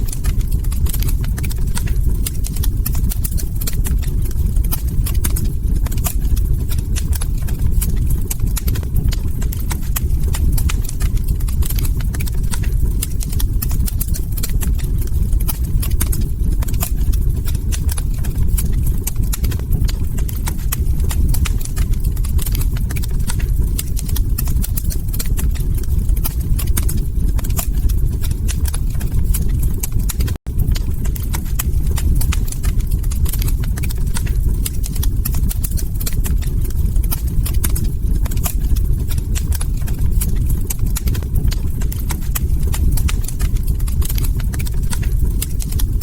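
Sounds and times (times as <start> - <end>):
log fire crackling and popping: 0.0 - 46.0
low rumble of flames: 0.0 - 46.0.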